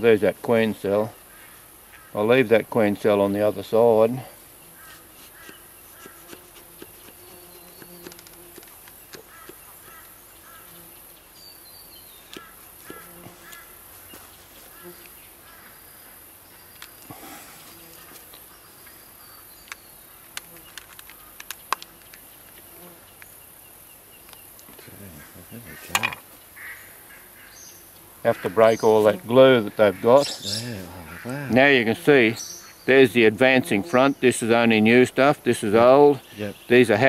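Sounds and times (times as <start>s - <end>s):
bees buzzing faintly: 0.0s - 37.0s.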